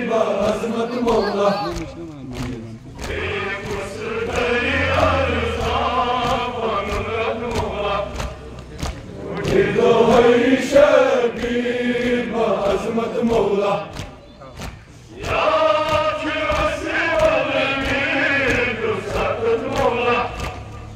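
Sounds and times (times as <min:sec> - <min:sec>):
men chanting in unison: 0:00.0 - 0:14.4, 0:15.1 - 0:20.9
rhythmic chest-beating: 0:00.0 - 0:20.9.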